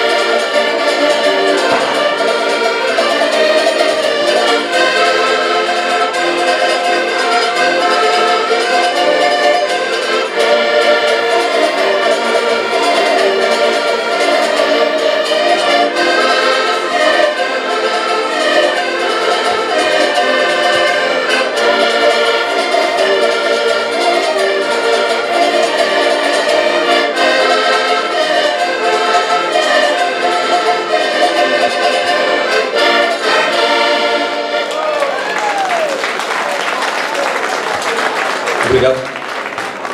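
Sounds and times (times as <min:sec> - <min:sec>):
plucked string instrument: 0:00.0 - 0:38.9
accordions playing folk tune: 0:00.0 - 0:39.9.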